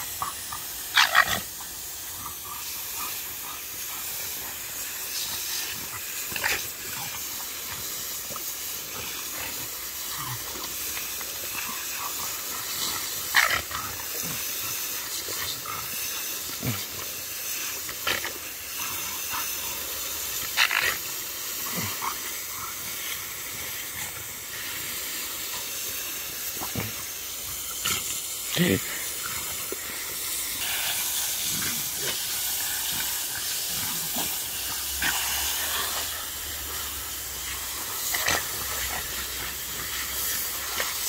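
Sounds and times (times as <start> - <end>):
hose spraying water: 0.0 - 41.0.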